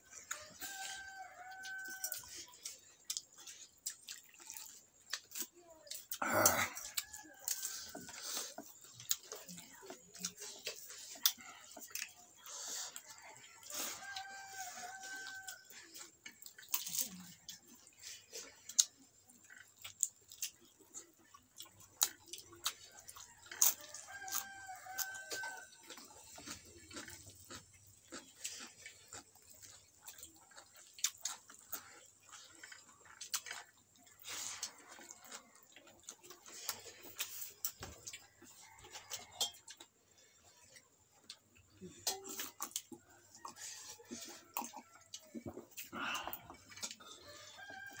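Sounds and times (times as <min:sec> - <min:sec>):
chewing and lip-smacking: 0:00.0 - 0:48.0.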